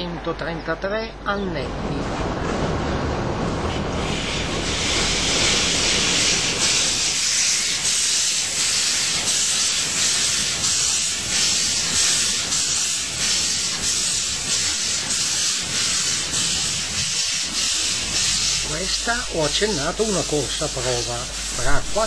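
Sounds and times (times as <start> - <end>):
steam locomotive chuffing: 1.9 - 22.0.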